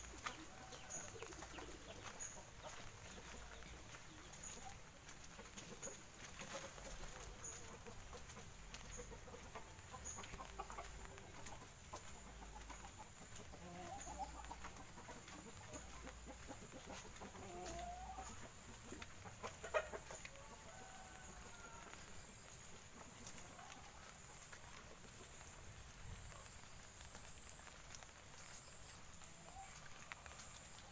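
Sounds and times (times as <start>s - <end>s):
chickens clucking: 0.0s - 30.9s
footsteps on wet dirt: 0.0s - 30.9s.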